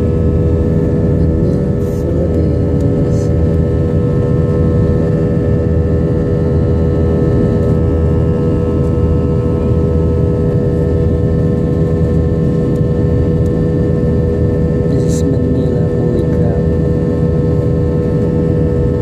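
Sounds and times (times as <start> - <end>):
airliner engines droning: 0.0 - 19.0.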